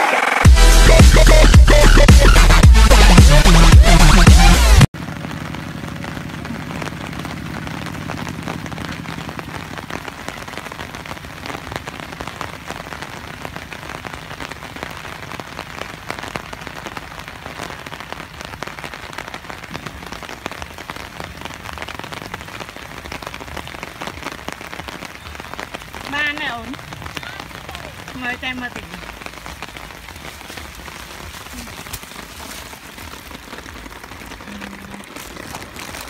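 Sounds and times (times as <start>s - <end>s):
rain falling on grass: 4.8s - 36.0s.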